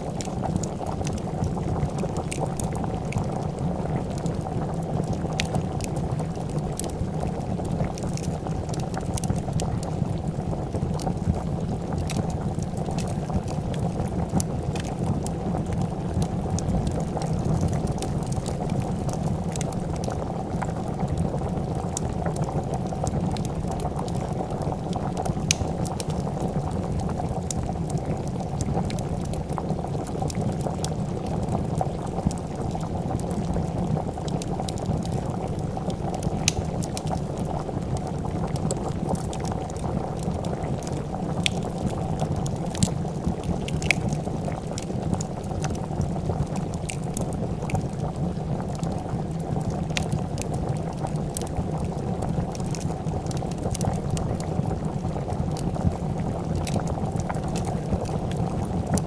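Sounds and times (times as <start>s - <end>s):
soup bubbling in a pot: 0.0s - 59.0s
wood fire crackling: 0.0s - 59.0s.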